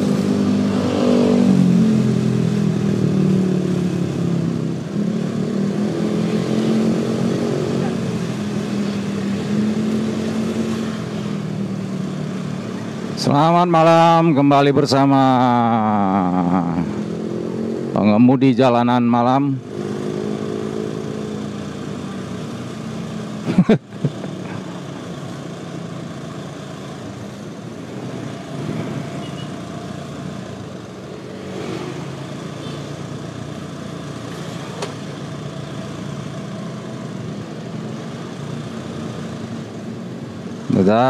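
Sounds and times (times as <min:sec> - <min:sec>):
motorcycle engine hum: 0:00.0 - 0:13.3, 0:19.6 - 0:41.0
road and traffic noise: 0:00.0 - 0:41.0.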